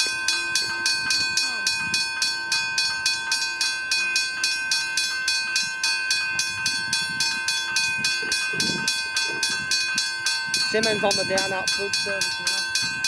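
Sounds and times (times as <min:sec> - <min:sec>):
level-crossing bell ringing: 0:00.0 - 0:13.0.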